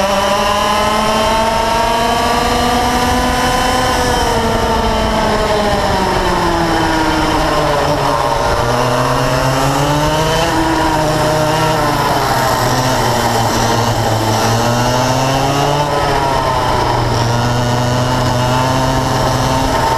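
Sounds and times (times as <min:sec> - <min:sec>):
kart engine at racing speed: 0:00.0 - 0:19.9
wind rush: 0:00.5 - 0:19.9.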